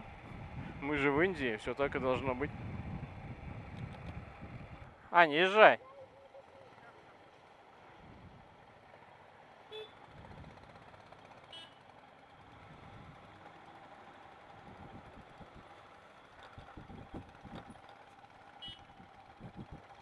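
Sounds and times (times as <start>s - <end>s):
vehicle engines running low: 0.0s - 5.0s, 6.0s - 20.0s.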